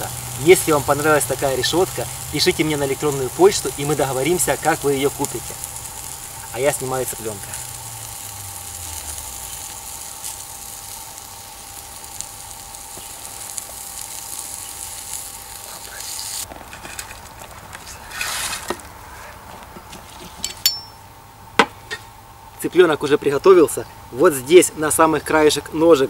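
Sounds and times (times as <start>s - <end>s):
chicken sizzling on a grill: 0.0s - 19.4s, 22.2s - 26.0s.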